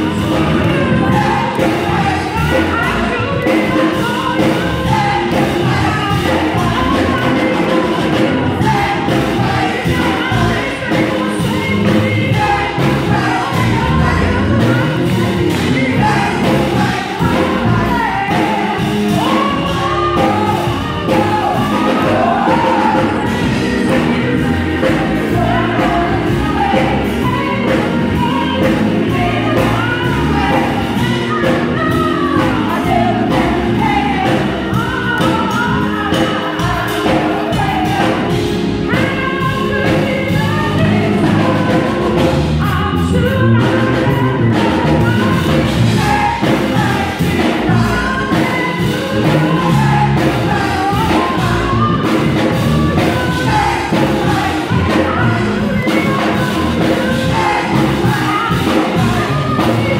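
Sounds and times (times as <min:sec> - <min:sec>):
women's gospel choir singing: 0:00.0 - 0:59.9.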